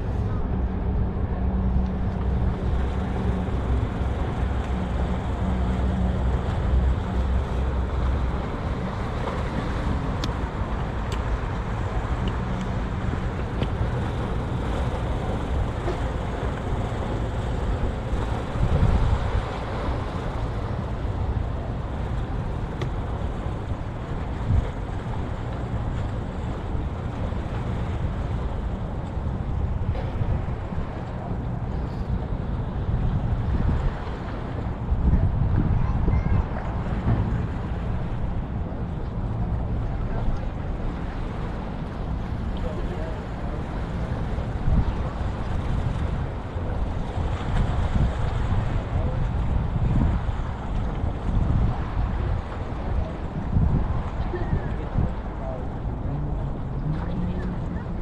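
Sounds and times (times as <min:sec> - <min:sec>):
low engine hum: 0:00.0 - 0:58.0
wind: 0:00.0 - 0:58.0.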